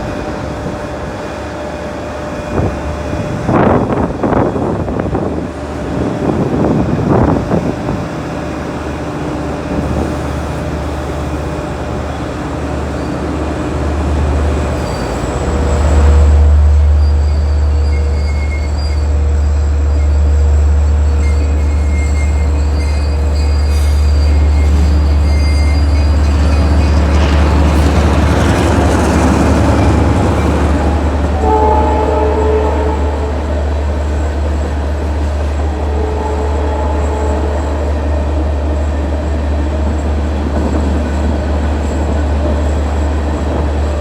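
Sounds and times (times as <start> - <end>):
train rumbling: 0.0 - 44.0.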